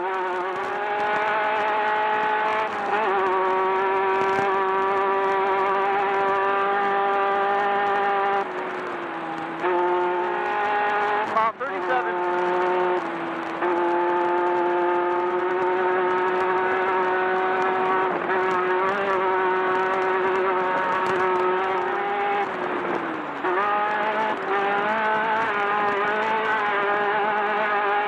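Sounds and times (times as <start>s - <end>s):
buggy engine at high revs: 0.0s - 28.0s.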